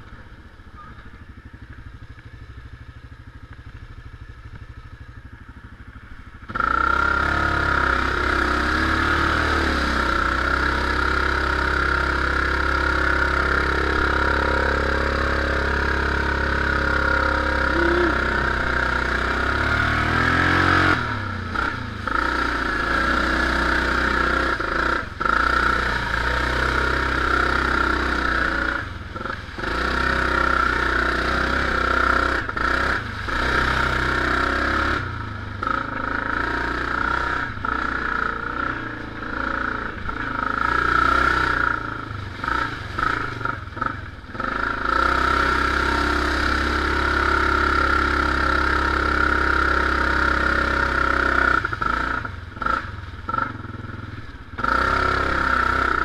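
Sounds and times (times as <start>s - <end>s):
atv engine running hard: 0.0s - 56.0s.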